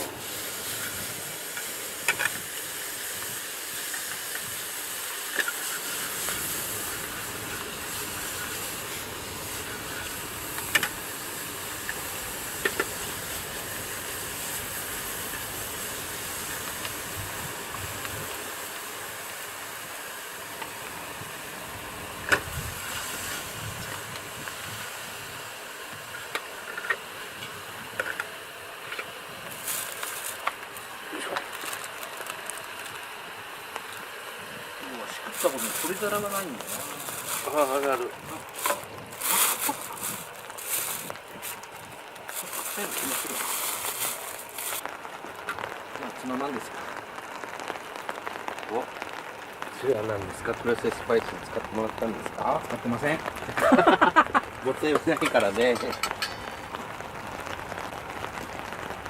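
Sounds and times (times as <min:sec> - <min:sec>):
camp burner hissing: 0:00.0 - 0:59.0.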